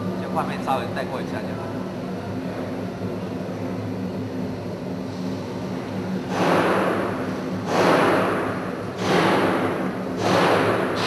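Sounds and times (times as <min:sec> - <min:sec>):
machine hum with low tones: 0:00.0 - 0:11.0.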